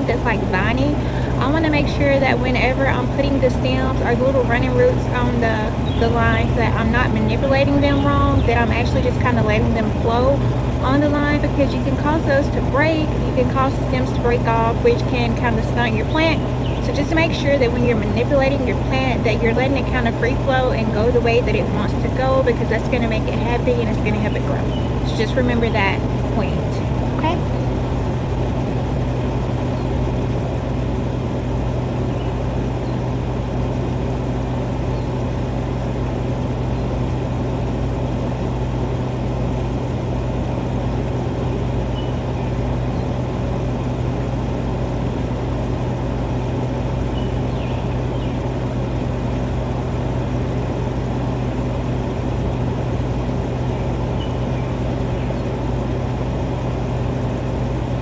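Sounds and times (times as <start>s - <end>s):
machine drone: 0.0s - 58.0s.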